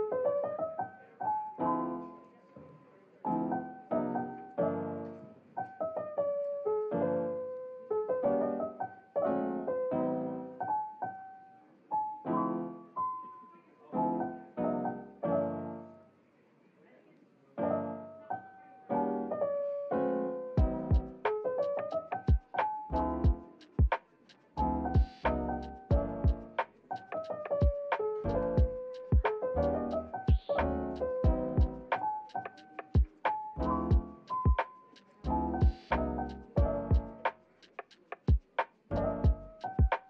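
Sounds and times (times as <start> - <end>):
gentle piano melody: 0.0 - 16.2, 17.5 - 37.6, 38.2 - 40.0.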